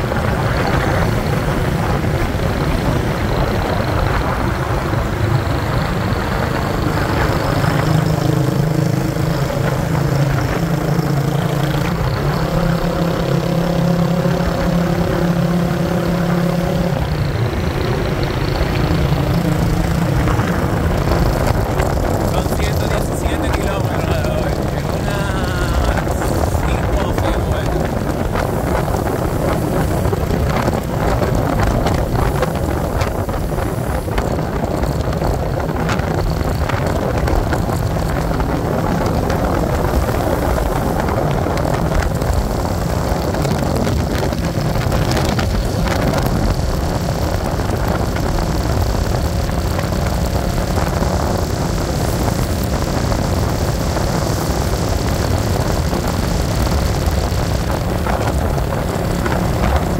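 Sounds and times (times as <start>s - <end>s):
moving vehicle noise: 0.0s - 59.9s
wind buffeting microphone: 0.0s - 59.9s.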